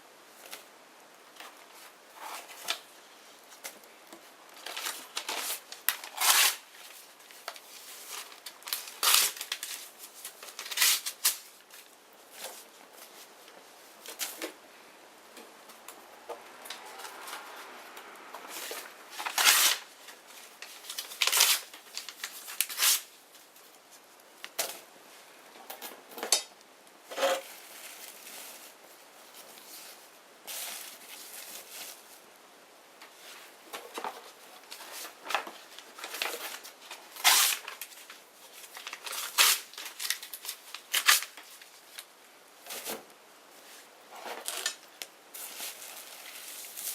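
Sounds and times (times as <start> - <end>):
soft hiss: 0.0 - 46.9.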